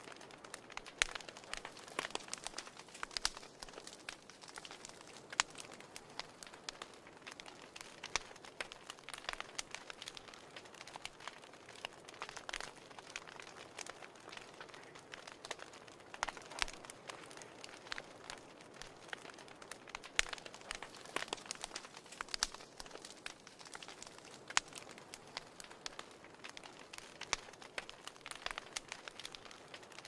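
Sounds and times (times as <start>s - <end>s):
fireplace fire crackling and popping: 0.0s - 30.0s.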